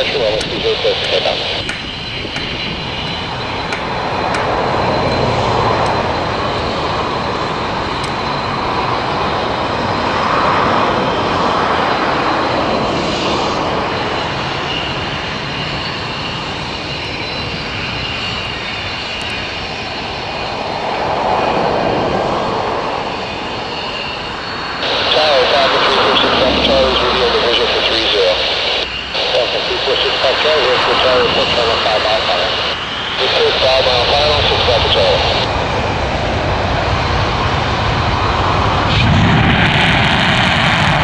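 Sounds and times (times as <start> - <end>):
faint high whine: 0.0 - 10.3, 11.1 - 41.0
jet engines running: 0.0 - 41.0.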